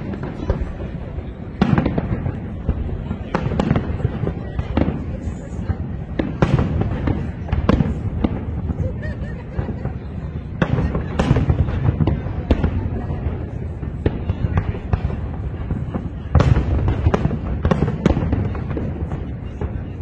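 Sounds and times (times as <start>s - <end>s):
fireworks bursting with sharp bangs: 0.0s - 20.0s
low rumble of explosions: 0.0s - 20.0s.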